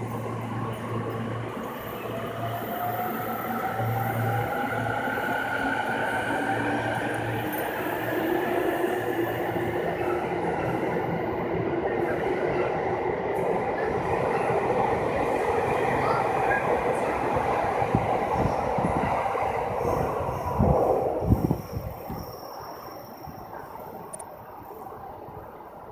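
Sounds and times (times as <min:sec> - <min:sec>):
electric train rumbling past: 0:00.0 - 0:25.9.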